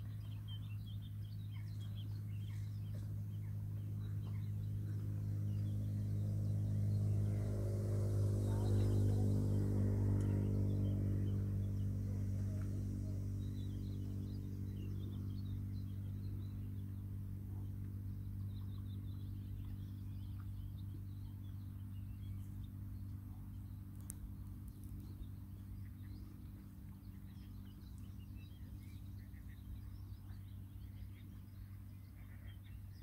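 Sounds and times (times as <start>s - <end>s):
birds chirping faintly: 0.0s - 33.0s
steady low drone: 0.0s - 33.0s.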